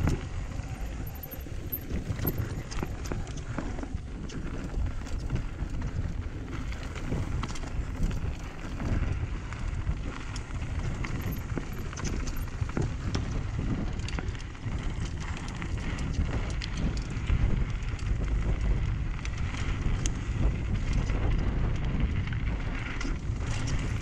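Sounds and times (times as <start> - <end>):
bike clicks and rattles: 0.0 - 24.0
wind rumbling on microphone: 0.0 - 24.0.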